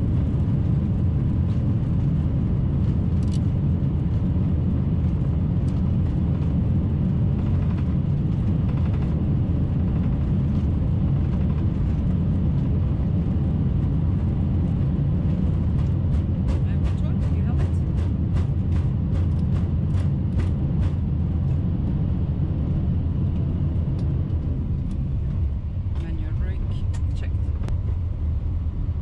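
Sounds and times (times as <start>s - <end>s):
airplane cockpit low rumble: 0.0s - 29.0s.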